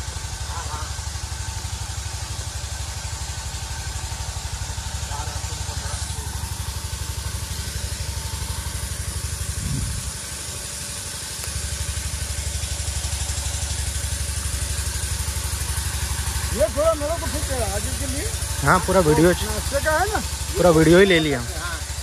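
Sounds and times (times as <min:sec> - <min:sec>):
vehicle engine pulsing: 0:00.0 - 0:22.0.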